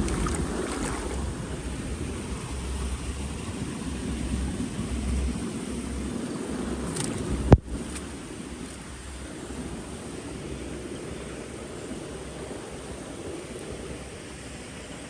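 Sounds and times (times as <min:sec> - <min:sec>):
steady outdoor hiss: 0:00.0 - 0:15.0
wind buffeting microphone: 0:00.0 - 0:15.0.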